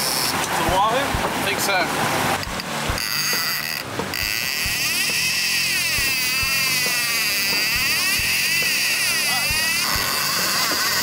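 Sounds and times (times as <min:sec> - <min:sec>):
fishing reel whining: 0:00.0 - 0:00.5, 0:02.4 - 0:11.0
outboard engine running: 0:00.0 - 0:11.0.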